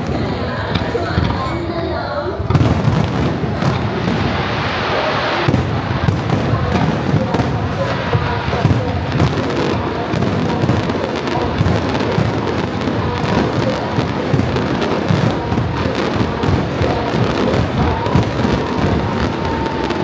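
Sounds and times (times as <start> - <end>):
fireworks bangs and booms: 0.0 - 20.0
music playing: 0.0 - 20.0.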